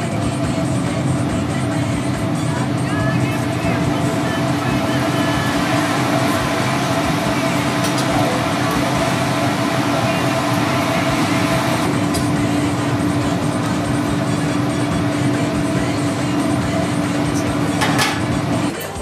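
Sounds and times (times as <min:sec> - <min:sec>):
furnace burner rushing and humming: 0:00.0 - 0:19.0.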